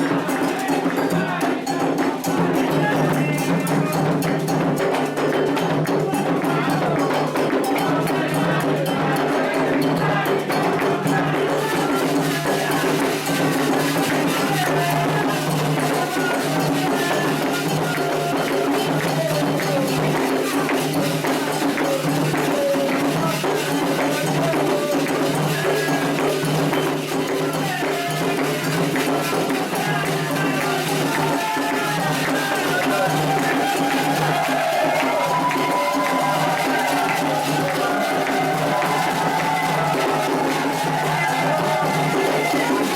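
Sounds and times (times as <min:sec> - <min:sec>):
hand drums: 0:00.0 - 0:42.9
metal bell beating rhythm: 0:00.0 - 0:42.9
voices singing a chant: 0:00.0 - 0:42.9.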